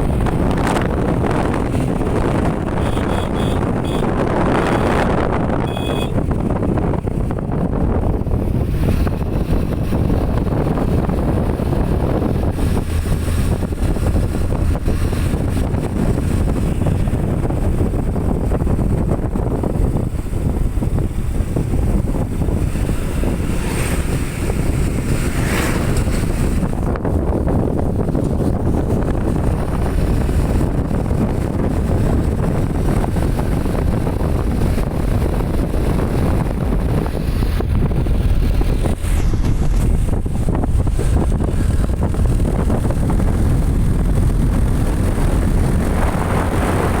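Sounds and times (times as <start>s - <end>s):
motorcycle road and engine noise: 0.0s - 47.0s
wind buffeting microphone: 0.0s - 47.0s.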